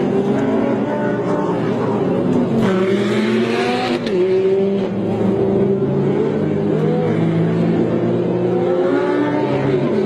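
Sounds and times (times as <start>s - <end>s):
racing car engines passing: 0.0s - 10.0s.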